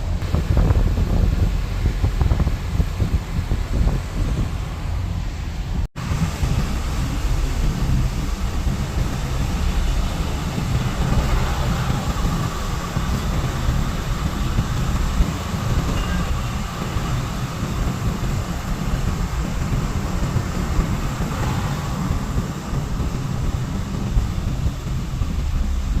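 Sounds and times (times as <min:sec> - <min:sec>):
passing vehicle: 0:00.0 - 0:26.0
wind buffeting microphone: 0:00.0 - 0:26.0.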